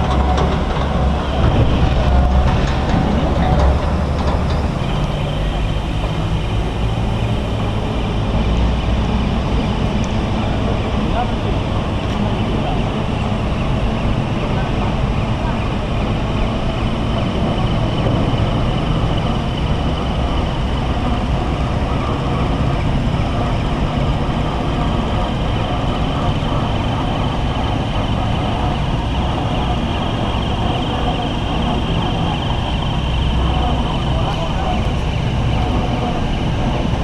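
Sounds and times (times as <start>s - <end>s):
crane machinery rumbling: 0.0s - 37.0s.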